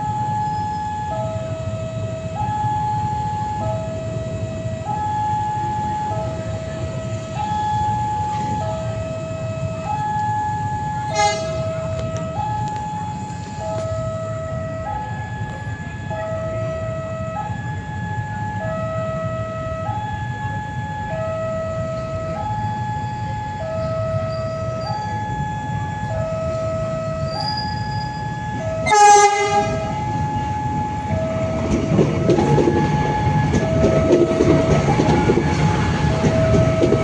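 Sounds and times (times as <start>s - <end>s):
two-tone crossing alarm: 0.0s - 37.0s.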